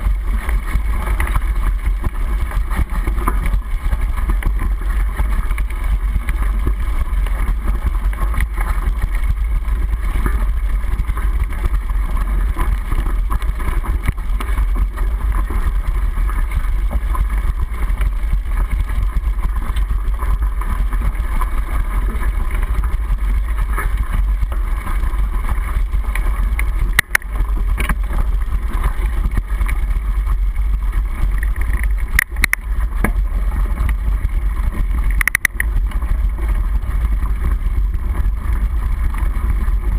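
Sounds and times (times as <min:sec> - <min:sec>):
bike riding low rumble: 0:00.0 - 0:39.9
wind noise: 0:00.0 - 0:39.9.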